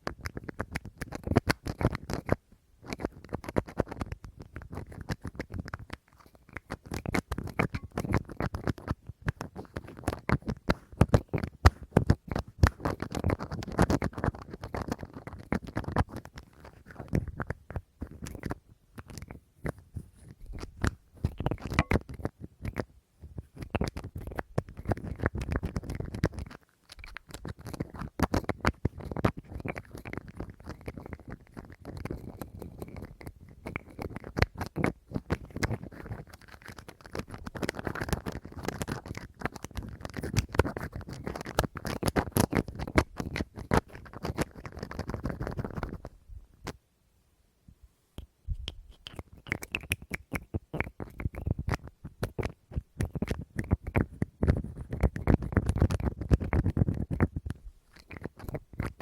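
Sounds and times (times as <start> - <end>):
fingers tapping and scratching: 0.0 - 46.8, 48.2 - 59.0.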